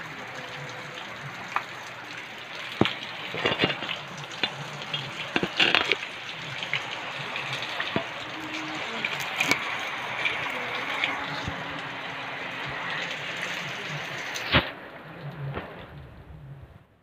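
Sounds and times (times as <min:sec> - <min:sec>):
raindrops tapping surfaces: 0:00.0 - 0:16.6
heavy rain hissing: 0:00.0 - 0:16.9.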